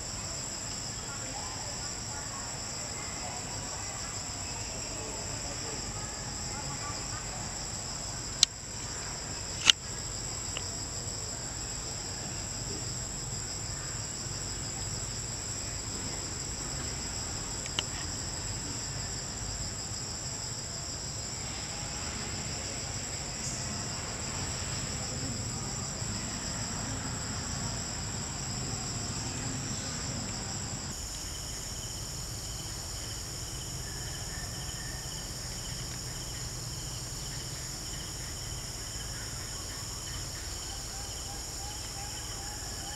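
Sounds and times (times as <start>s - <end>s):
forest insects trilling: 0.0s - 42.9s.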